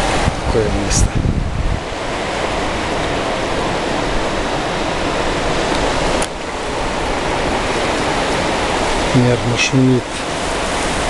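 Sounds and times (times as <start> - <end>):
sea waves washing in: 0.0 - 11.0.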